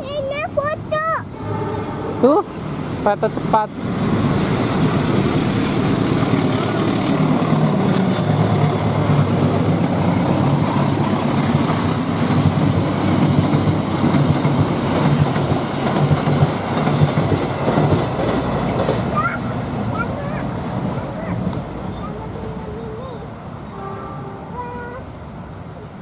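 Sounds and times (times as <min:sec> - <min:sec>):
train wheels rumbling on rails: 0:00.9 - 0:21.9.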